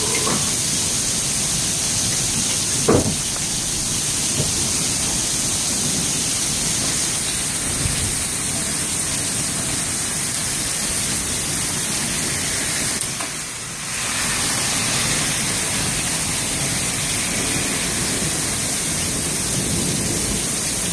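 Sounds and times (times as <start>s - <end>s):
hail and rain pelting down: 0.0s - 20.9s.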